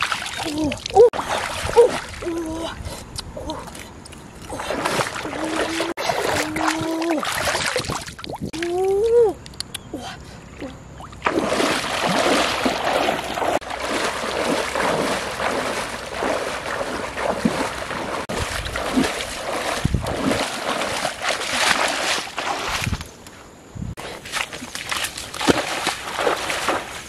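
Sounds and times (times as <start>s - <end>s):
legs wading through water: 0.0s - 2.3s, 3.6s - 8.9s, 10.6s - 23.0s, 24.0s - 27.0s.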